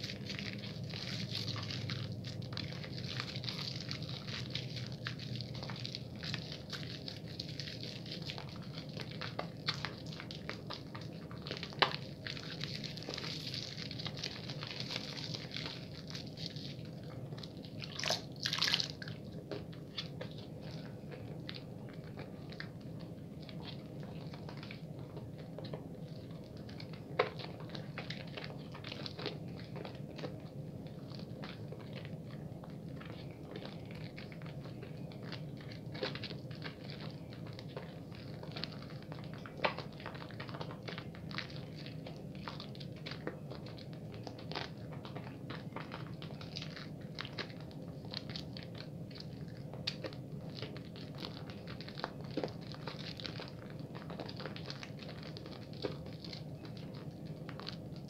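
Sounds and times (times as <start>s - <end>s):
soap lather squishing: 0.0s - 58.0s.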